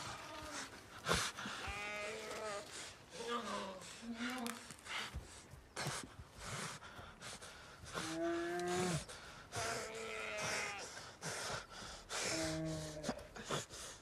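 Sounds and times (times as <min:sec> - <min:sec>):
heavy ragged breathing: 0:00.0 - 0:14.0.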